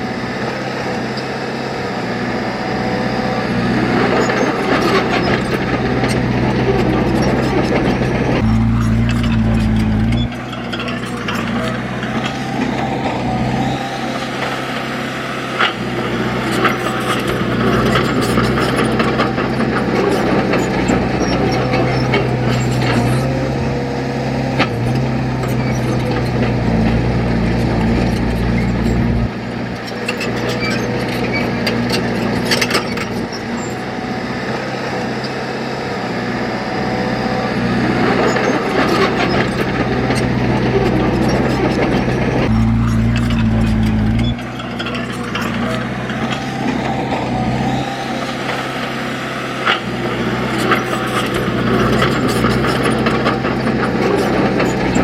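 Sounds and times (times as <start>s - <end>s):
diesel machine engine under load: 0.0s - 55.0s.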